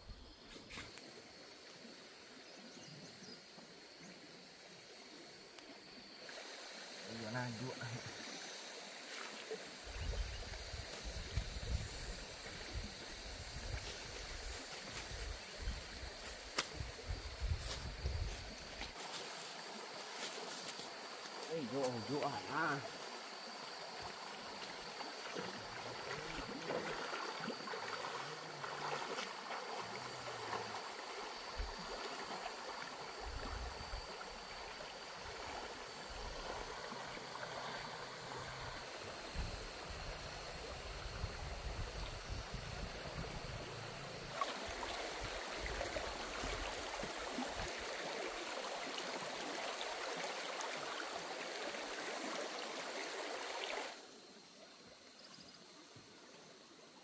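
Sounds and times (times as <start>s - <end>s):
running water: 5.0s - 54.0s.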